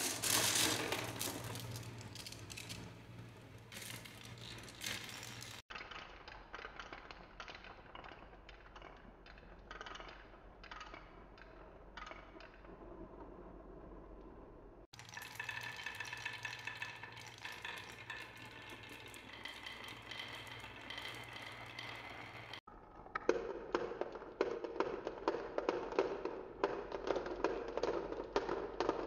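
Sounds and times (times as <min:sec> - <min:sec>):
marbles clacking on wooden tracks: 0:00.0 - 0:29.0
marbles rolling and clinking: 0:00.0 - 0:29.0.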